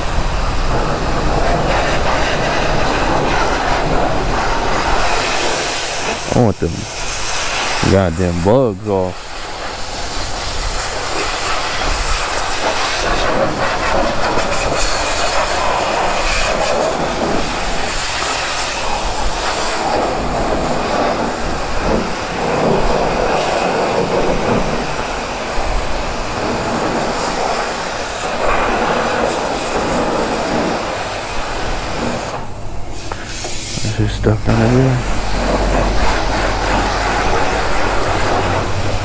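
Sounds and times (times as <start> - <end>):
pressure washer spraying water: 0.0 - 39.0.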